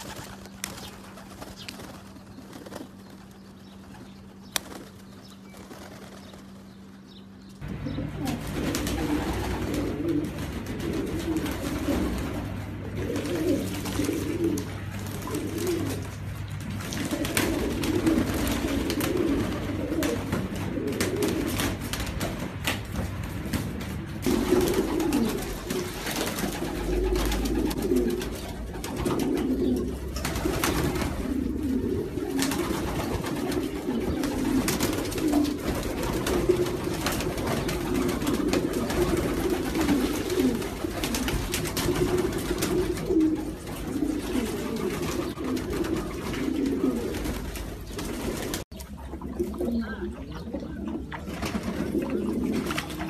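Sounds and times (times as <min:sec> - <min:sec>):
birds splashing and fluttering: 0:00.0 - 0:53.0
pigeons cooing: 0:00.0 - 0:53.0.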